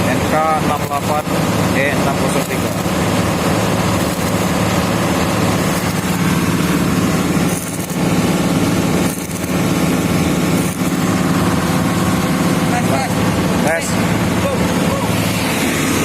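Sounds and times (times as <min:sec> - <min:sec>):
excavator diesel engines running: 0:00.0 - 0:16.0.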